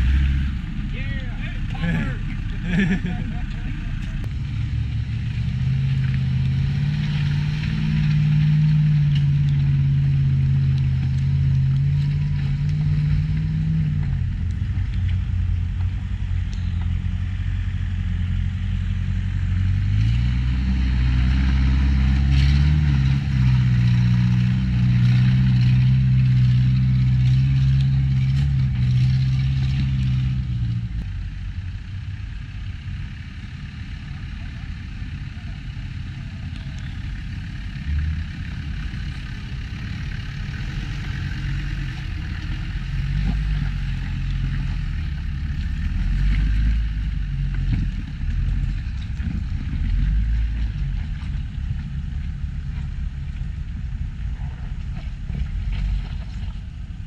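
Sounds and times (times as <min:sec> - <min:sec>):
engine working at low speed: 0:00.0 - 0:57.0.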